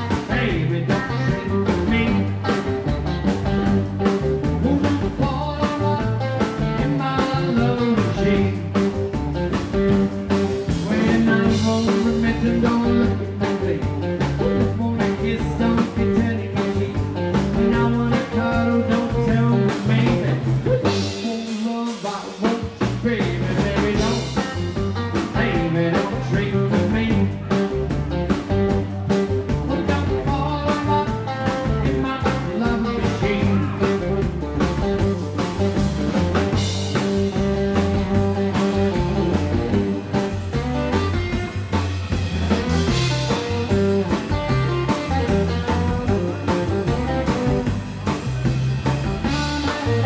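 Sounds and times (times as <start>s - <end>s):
rockabilly band playing: 0.0s - 50.0s.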